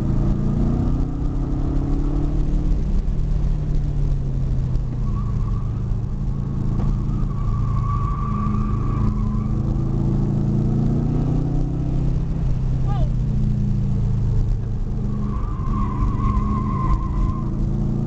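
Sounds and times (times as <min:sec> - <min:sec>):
car engine running: 0:00.0 - 0:18.0
road and wind noise: 0:00.0 - 0:18.0.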